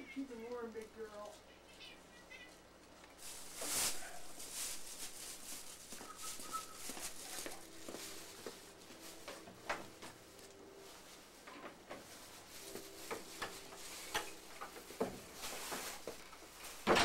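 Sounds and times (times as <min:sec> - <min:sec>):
plastic bag rustling: 0:02.6 - 0:17.0.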